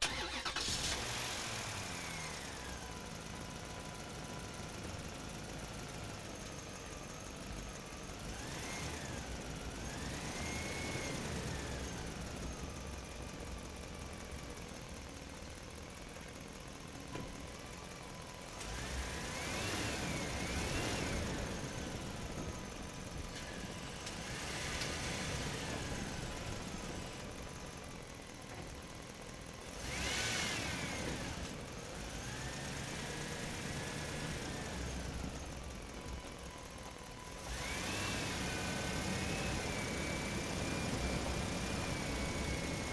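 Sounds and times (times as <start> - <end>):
truck engine rumble: 0.0 - 42.9.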